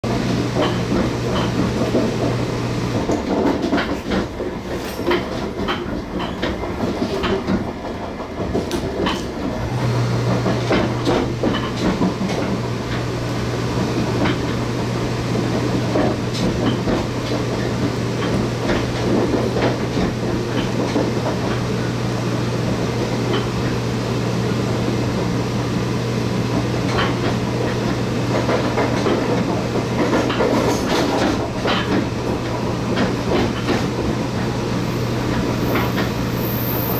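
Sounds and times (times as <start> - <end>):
train wheels rumbling on rail: 0.0 - 36.9
wheels clacking over track: 0.1 - 22.2, 26.5 - 36.6.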